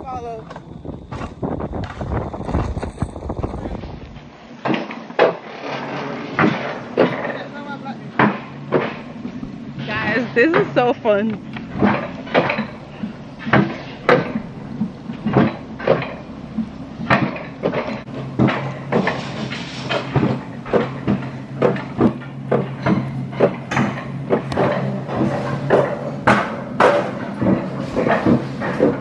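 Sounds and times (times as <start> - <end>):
steady low hum: 0.0 - 29.0
coaster car clacking over rail joints: 4.6 - 29.0.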